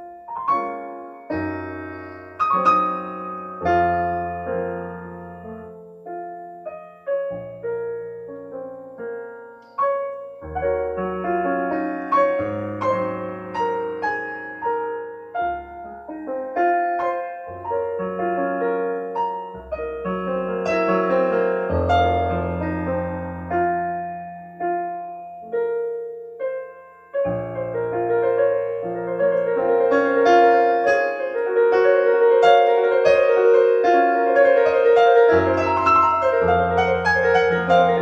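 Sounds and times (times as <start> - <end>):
slow solo piano piece: 0.0 - 38.0.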